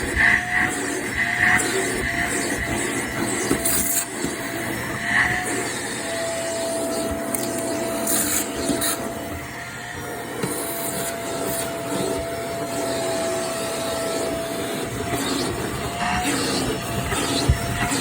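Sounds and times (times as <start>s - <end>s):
vacuum cleaner motor whine: 0.0s - 18.0s
vacuum head rubbing on stairs: 0.0s - 18.0s.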